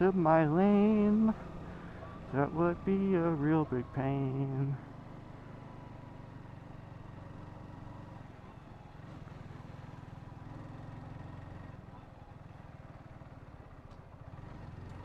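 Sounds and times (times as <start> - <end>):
motorcycle engine running: 0.0 - 15.0
road and air noise: 0.0 - 15.0.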